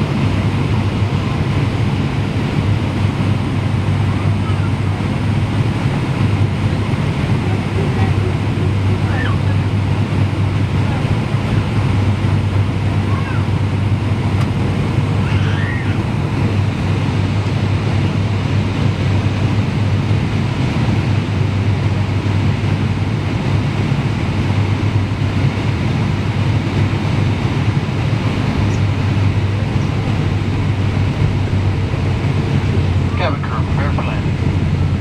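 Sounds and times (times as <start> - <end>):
jet airliner cabin noise: 0.0 - 35.0.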